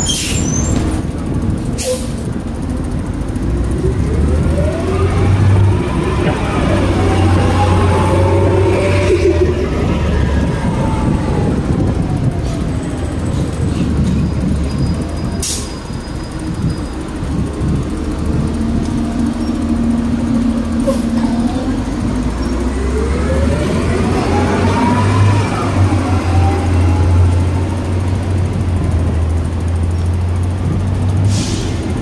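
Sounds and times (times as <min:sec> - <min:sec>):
bus engine hum and whine: 0:00.0 - 0:32.0
street traffic: 0:00.0 - 0:32.0.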